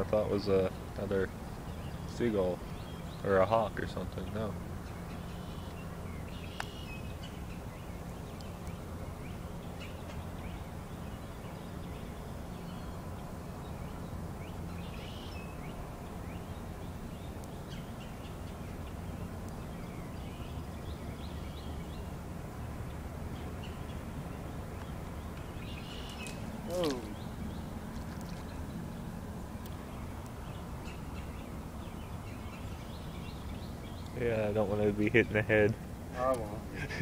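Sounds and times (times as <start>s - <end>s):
low background rumble: 0.0s - 37.0s
faint bird chirps: 0.7s - 22.1s, 23.4s - 35.4s.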